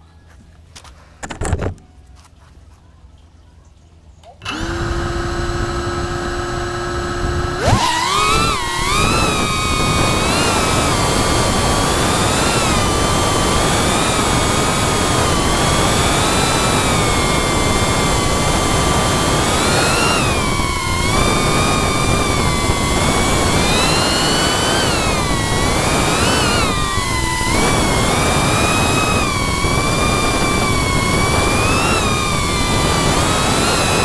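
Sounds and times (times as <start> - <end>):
drone motors whining: 4.4 - 34.0.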